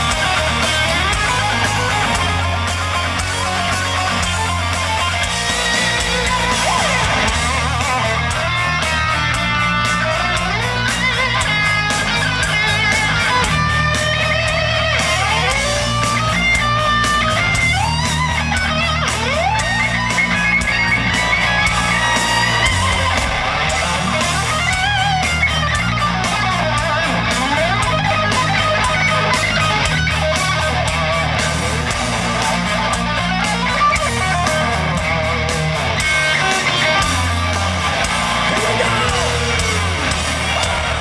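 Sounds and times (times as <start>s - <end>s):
bass guitar: 0.0s - 41.0s
drums with cymbal hits: 0.0s - 41.0s
electric guitar solo: 0.0s - 41.0s.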